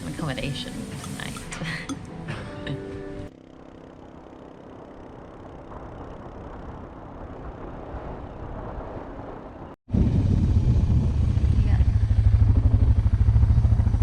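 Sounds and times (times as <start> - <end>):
vehicle road noise: 2.6 - 14.0.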